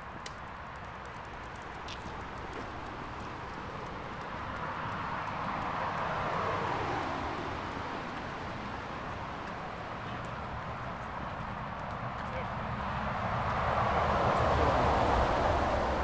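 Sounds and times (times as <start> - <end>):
vehicle passing by: 1.4 - 16.0.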